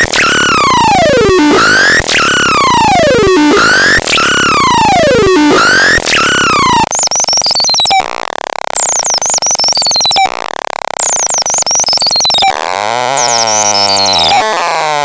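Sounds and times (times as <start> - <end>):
high warbling electronic chirps: 0.0 - 8.0, 8.8 - 10.3, 11.0 - 12.6, 13.2 - 14.4.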